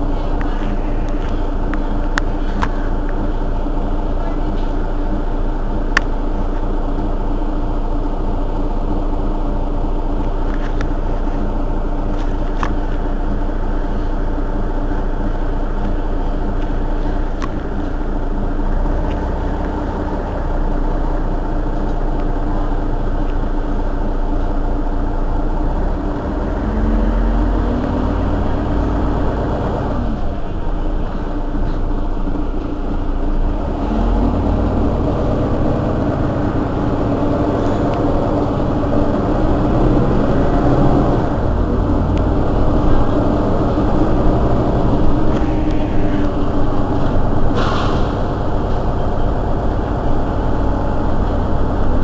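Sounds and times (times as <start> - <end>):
bus diesel engine idling: 0.0 - 52.0.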